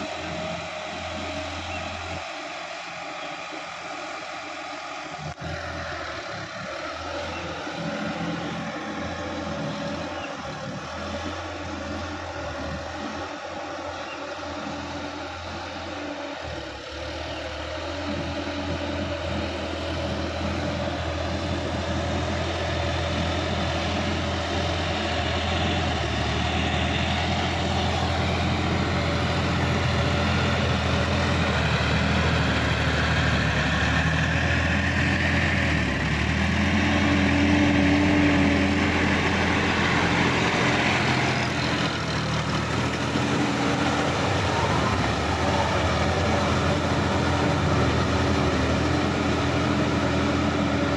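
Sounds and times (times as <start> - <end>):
diesel tractor engine running: 0.0 - 50.9
rotary tiller churning mud: 5.2 - 50.9.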